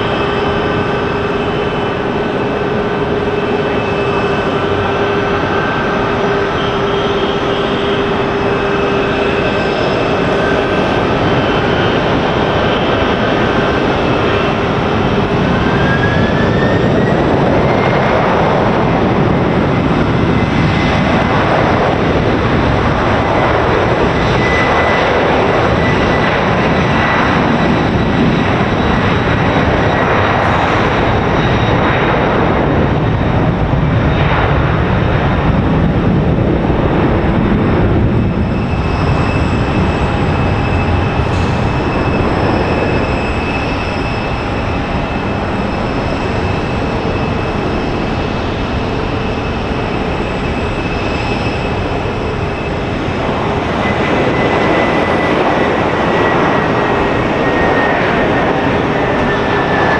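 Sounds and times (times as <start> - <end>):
high engine whine: 0.0 - 59.9
jet engines roaring: 0.0 - 59.9.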